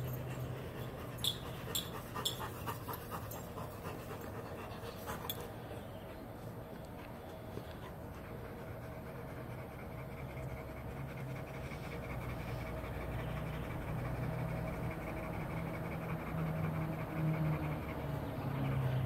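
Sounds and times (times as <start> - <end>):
dog panting rapidly: 0.0 - 19.0.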